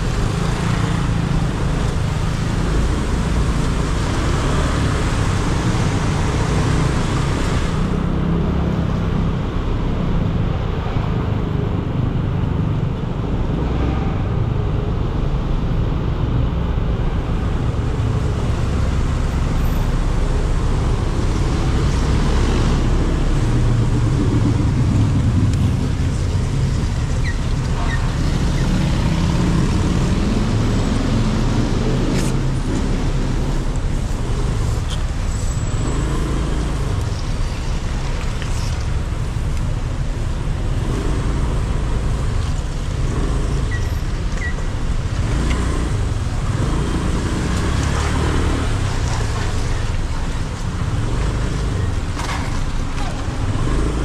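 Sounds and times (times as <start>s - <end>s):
road and traffic noise: 0.0s - 54.0s.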